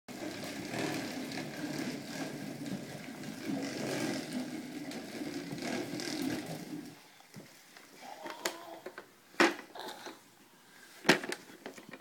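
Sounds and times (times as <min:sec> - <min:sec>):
plastic wheels rolling on wooden floor: 0:00.1 - 0:09.8, 0:10.9 - 0:12.0.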